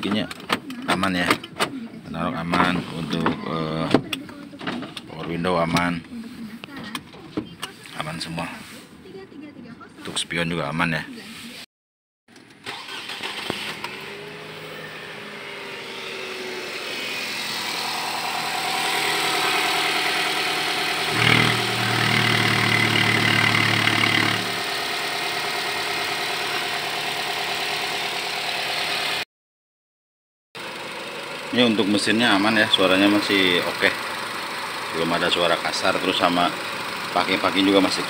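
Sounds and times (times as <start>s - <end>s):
car engine starting and idling: 0.1s - 7.9s, 12.3s - 29.2s, 30.6s - 38.0s.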